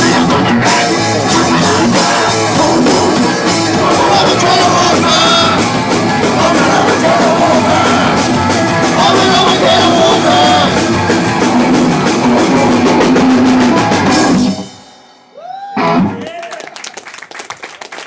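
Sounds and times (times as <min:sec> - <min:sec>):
fast pounding drum kit: 0:00.0 - 0:14.9
punk band playing live: 0:00.0 - 0:16.4.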